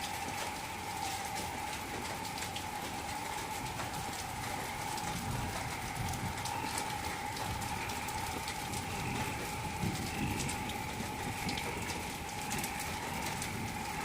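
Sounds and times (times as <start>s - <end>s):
heavy rain falling: 0.0s - 14.0s
rain drop ticks: 0.0s - 14.0s.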